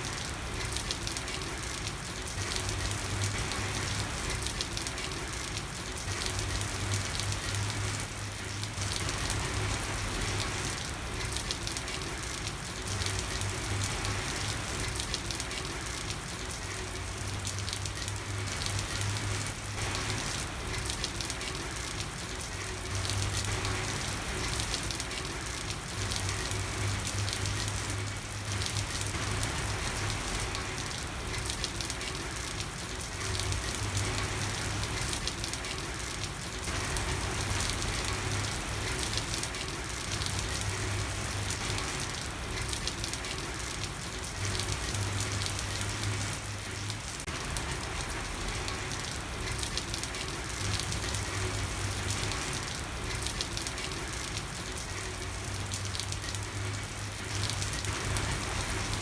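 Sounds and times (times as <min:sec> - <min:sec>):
rain falling on a street: 0:00.0 - 0:59.0.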